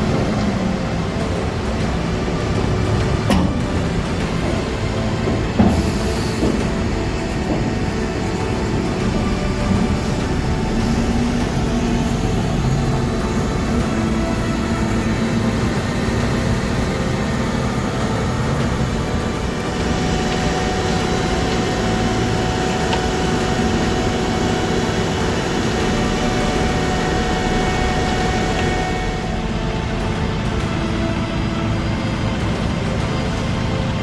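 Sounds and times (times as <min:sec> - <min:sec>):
engine rumble: 0:00.0 - 0:34.0.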